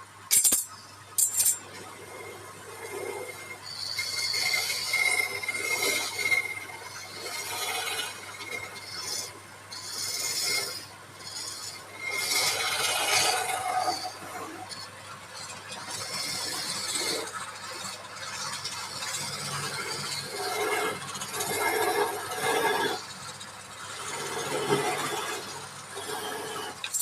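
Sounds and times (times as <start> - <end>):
turning tool scraping wood: 1.4 - 27.0
lathe humming: 1.6 - 27.0.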